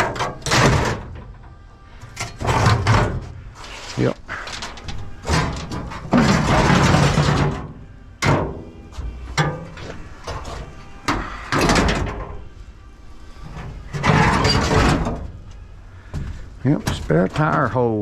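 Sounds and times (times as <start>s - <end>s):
metal clanking: 0.0s - 3.4s, 4.3s - 12.6s, 13.4s - 17.8s
metal scraping: 0.0s - 18.0s.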